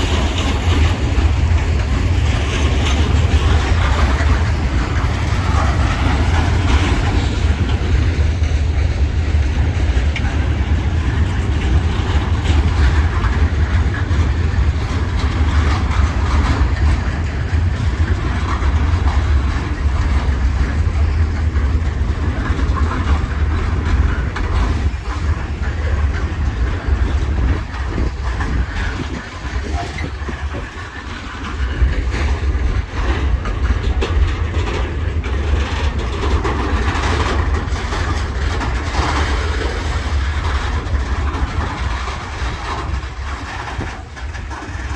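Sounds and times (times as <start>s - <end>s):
rail noise: 0.0s - 44.9s
train rumbling: 0.0s - 44.9s.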